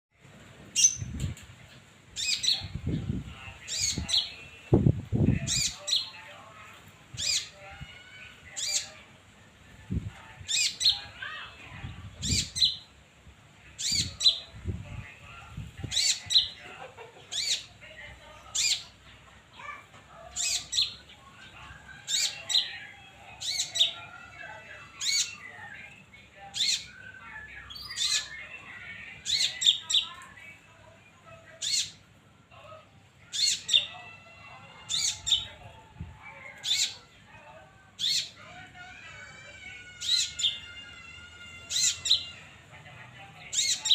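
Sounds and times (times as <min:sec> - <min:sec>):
songbird chirping: 0:00.3 - 0:43.9.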